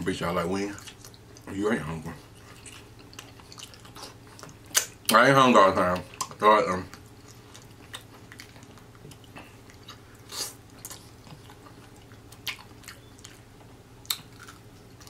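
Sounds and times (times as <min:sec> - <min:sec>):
person chewing with wet smacks: 0:00.6 - 0:15.0.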